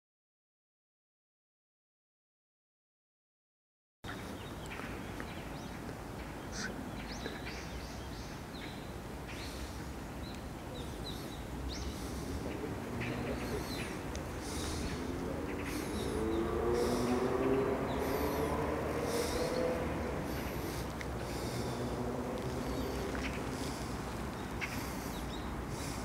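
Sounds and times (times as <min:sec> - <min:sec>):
birds chirping: 0:04.1 - 0:26.0
low background noise: 0:04.1 - 0:26.0.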